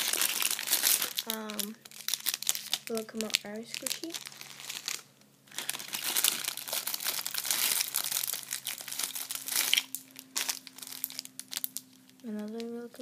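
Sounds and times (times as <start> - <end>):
plastic bags crinkling: 0.0 - 12.8.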